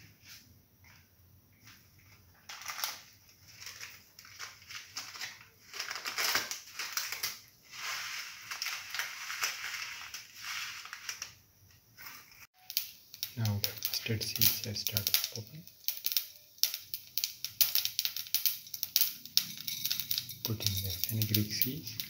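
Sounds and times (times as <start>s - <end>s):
seeds sizzling and popping in oil: 1.6s - 22.0s.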